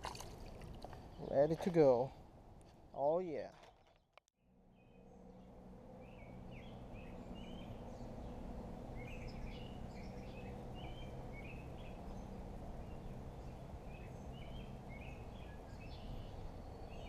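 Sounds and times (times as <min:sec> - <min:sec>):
small birds chirping: 0:00.7 - 0:02.1, 0:04.7 - 0:17.0.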